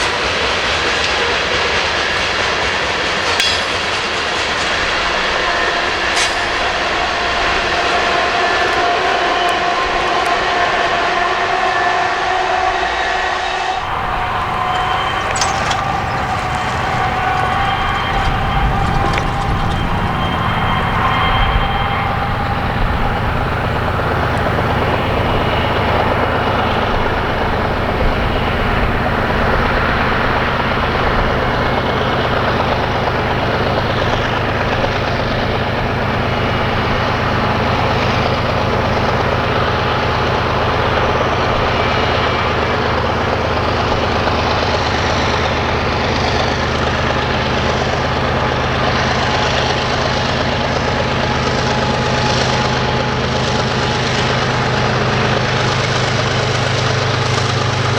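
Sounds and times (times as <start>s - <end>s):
locomotive engine drone: 0.0s - 11.7s, 13.6s - 57.9s
rail and wheel noise: 0.0s - 57.9s.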